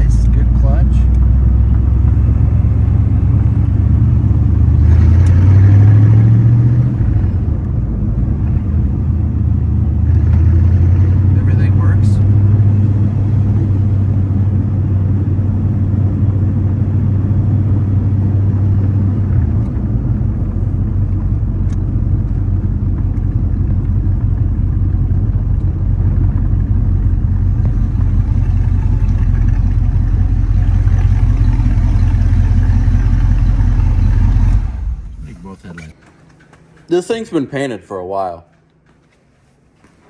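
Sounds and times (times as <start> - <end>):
car engine running: 0.0 - 36.0.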